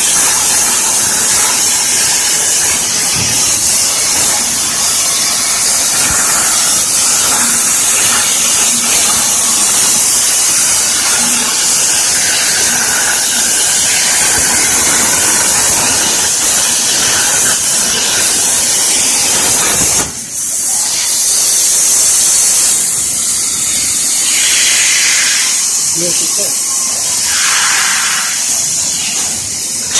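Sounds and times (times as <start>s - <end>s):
plasma torch hissing: 0.0s - 29.9s.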